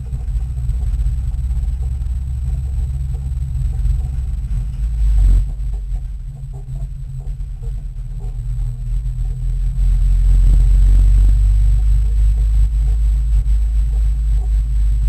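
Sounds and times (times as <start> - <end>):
car cabin engine drone: 0.0 - 15.0
tyres rumbling over dirt: 0.0 - 15.0.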